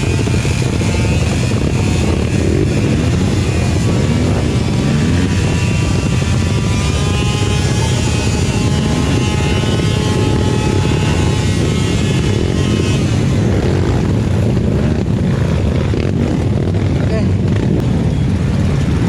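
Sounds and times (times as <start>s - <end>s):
thin high whine: 0.0s - 15.4s
dirt bike engine rumbling: 0.0s - 19.0s.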